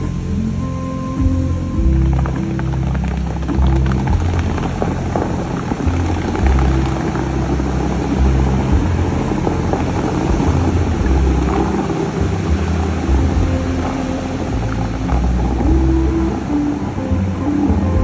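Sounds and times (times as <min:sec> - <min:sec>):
music with held low notes: 0:00.0 - 0:18.0
water jets rushing and splashing: 0:01.2 - 0:18.0.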